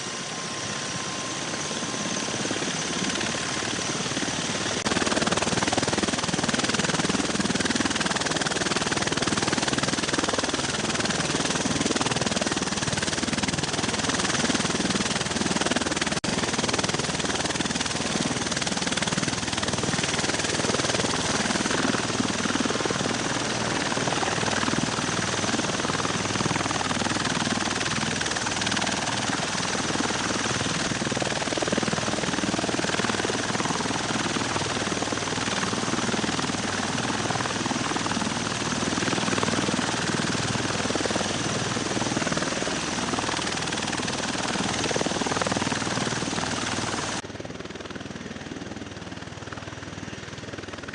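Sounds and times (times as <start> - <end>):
aircraft rotor and turbine noise: 0.0 - 50.9.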